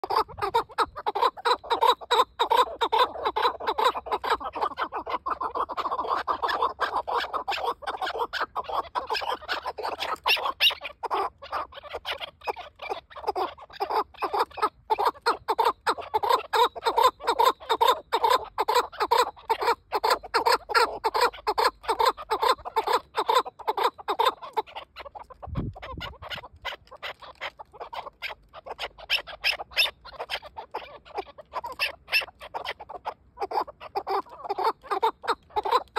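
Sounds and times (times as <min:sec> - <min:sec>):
partridge clucking calls: 0:00.0 - 0:35.9.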